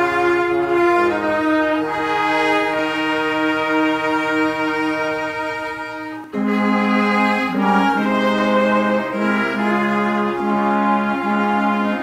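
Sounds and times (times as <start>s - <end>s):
instrumental ensemble playing chords: 0.0s - 12.0s.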